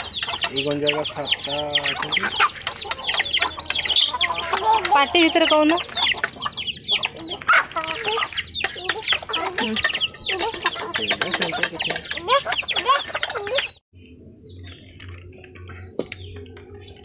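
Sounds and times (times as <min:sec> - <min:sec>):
chickens clucking: 0:00.0 - 0:13.8
chicks peeping: 0:00.0 - 0:13.8.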